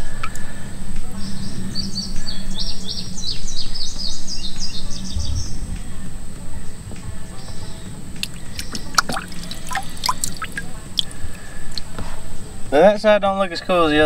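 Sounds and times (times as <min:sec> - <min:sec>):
songbird chirping: 0:00.0 - 0:12.7.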